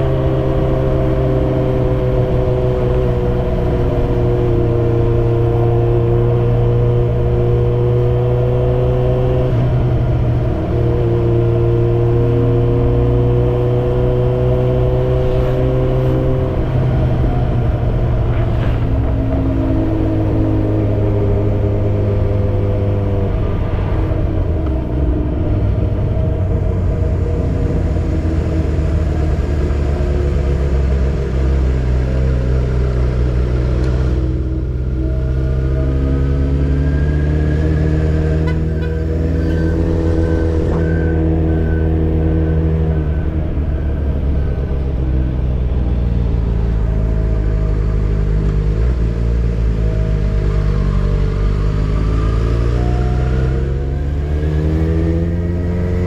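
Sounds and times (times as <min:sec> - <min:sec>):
motorcycle engine while riding: 0:00.0 - 0:56.0.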